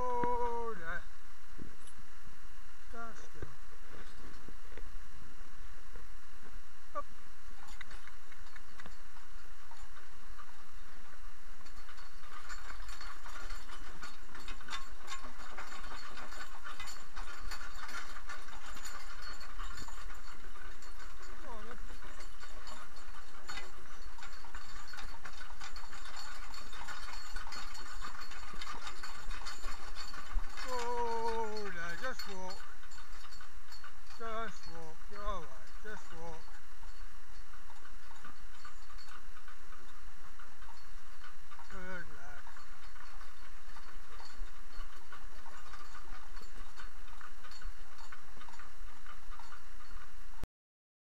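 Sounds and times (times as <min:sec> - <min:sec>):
harness clinking: 0:00.0 - 0:02.2, 0:02.9 - 0:05.4, 0:06.0 - 0:50.4
horse hooves clip-clopping: 0:00.0 - 0:50.4
cart rattling: 0:07.6 - 0:50.1.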